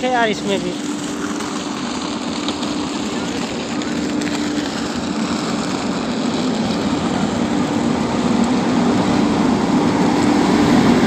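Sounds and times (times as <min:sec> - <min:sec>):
electric locomotive hum: 0:00.0 - 0:11.0
train wheels rolling: 0:00.0 - 0:11.0.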